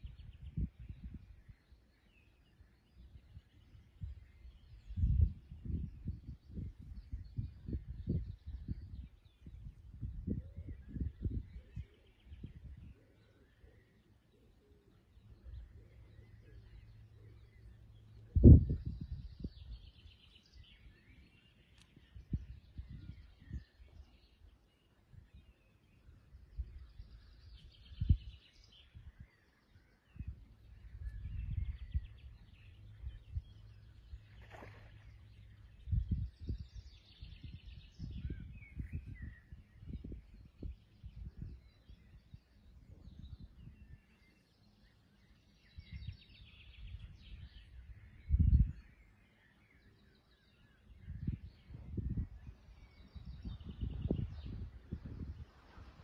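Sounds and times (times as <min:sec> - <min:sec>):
wind buffeting microphone: 0:00.0 - 0:01.7, 0:02.8 - 0:13.1, 0:17.4 - 0:44.4, 0:45.6 - 0:49.1, 0:50.4 - 0:56.0
songbirds chirping and singing: 0:00.0 - 0:56.0.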